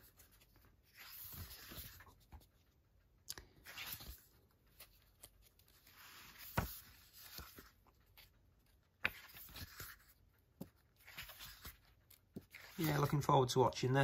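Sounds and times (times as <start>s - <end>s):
book pages turning: 0.0s - 13.6s.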